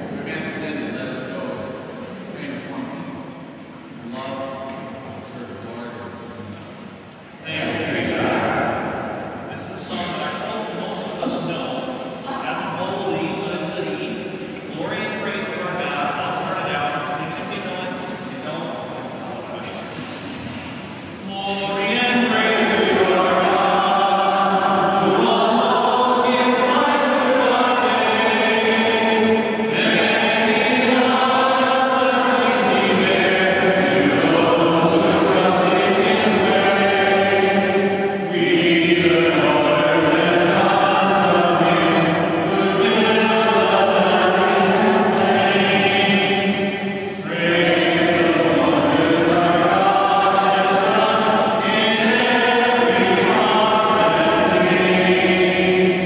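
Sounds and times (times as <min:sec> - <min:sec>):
congregation singing: 0:00.0 - 0:56.0.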